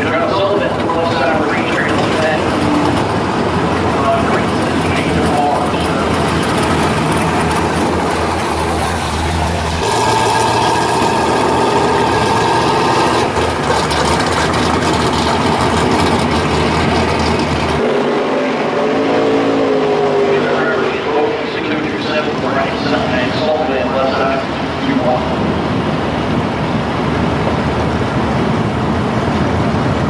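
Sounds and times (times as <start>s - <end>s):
car engines idling rumble: 0.0s - 18.8s, 20.2s - 30.0s.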